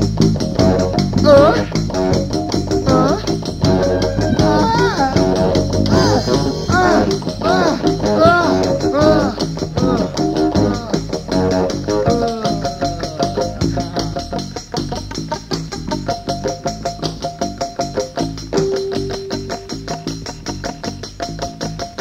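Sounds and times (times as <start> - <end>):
blues rock band playing: 0.0 - 22.0.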